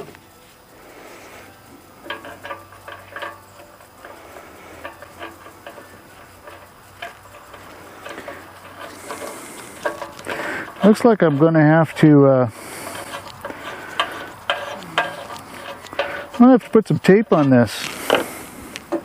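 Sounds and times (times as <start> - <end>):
faint steady hum: 0.0 - 19.0
small metal parts clinking: 1.6 - 19.0.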